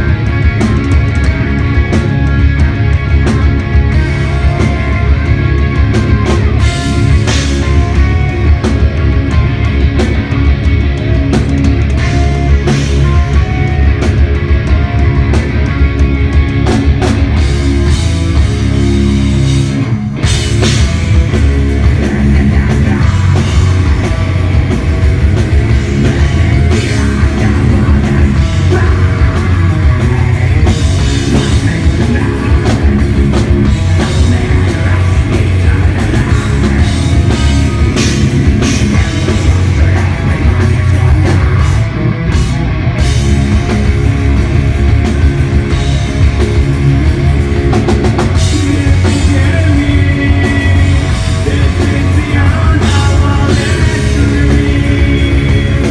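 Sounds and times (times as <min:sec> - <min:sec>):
bass guitar: 0:00.0 - 0:55.9
distorted electric guitars: 0:00.0 - 0:55.9
fast drum kit: 0:00.0 - 0:55.9.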